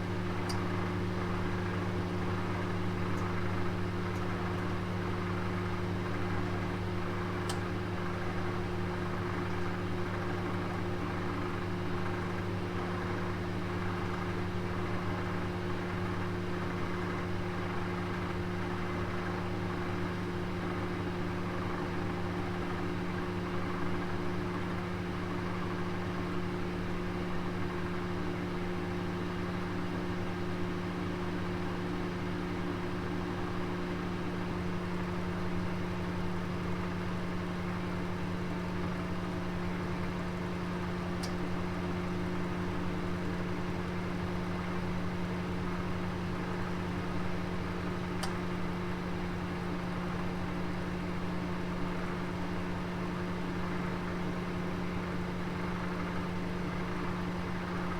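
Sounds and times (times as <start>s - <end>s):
oven electric hum: 0.0s - 57.9s.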